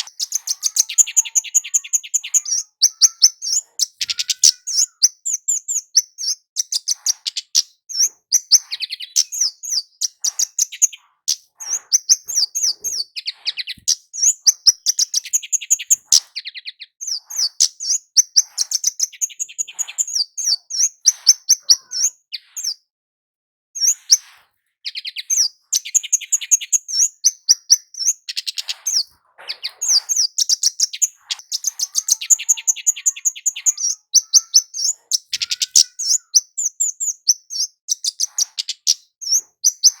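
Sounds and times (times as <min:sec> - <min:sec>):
flowerpecker high rapid chirps: 0:00.0 - 0:22.8, 0:24.9 - 0:40.0.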